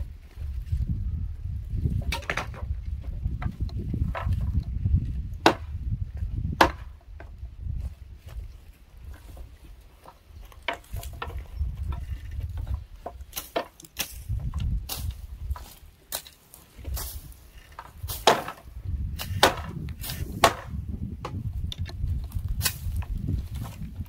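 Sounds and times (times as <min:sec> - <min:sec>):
blade chopping dry branches: 0:01.8 - 0:07.4, 0:09.1 - 0:24.0.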